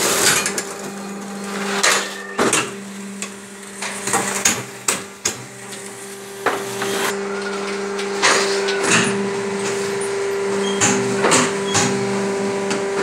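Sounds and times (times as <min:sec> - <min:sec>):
machine motor humming: 0:00.0 - 0:13.0.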